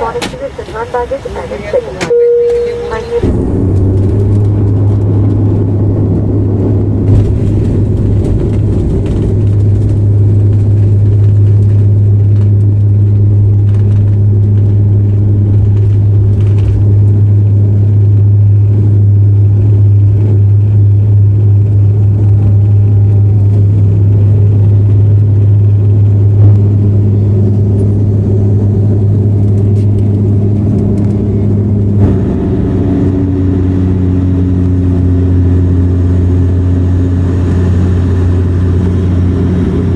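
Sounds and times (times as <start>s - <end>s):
airliner engines droning in cabin: 0.0s - 39.9s.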